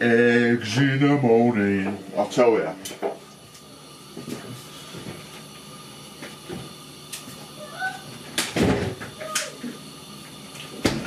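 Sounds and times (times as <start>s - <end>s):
background hiss and hum: 0.0s - 11.0s.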